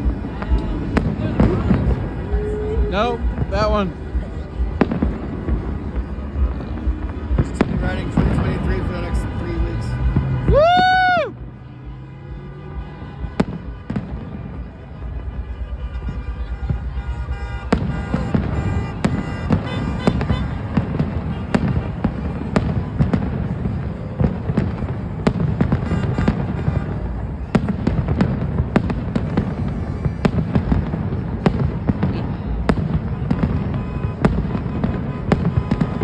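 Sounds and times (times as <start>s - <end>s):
fireworks booms and crackles: 0.0s - 36.0s.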